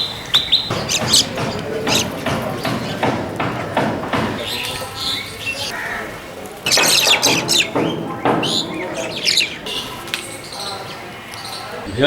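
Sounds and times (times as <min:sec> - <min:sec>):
mynas calling and chattering: 0:00.0 - 0:12.0.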